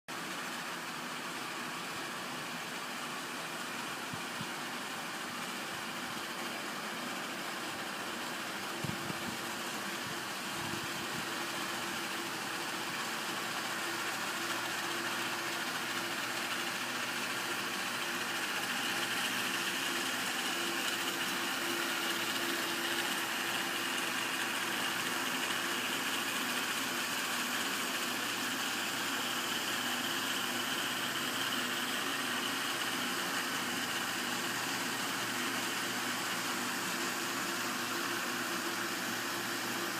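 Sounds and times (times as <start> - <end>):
model helicopter rotors whirring: 0.2 - 39.9.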